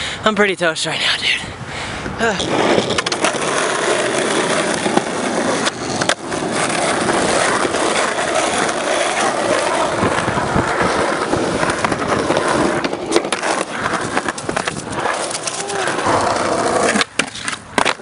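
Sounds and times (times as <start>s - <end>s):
skateboard wheels rolling on asphalt: 2.0s - 18.0s
skateboard clacking: 2.5s - 18.0s.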